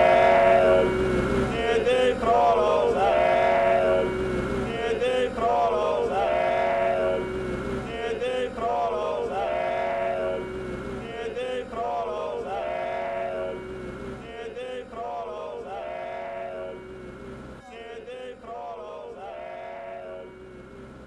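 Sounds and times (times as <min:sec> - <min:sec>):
men singing a song: 0:01.5 - 0:13.6, 0:14.2 - 0:16.8, 0:17.7 - 0:20.3.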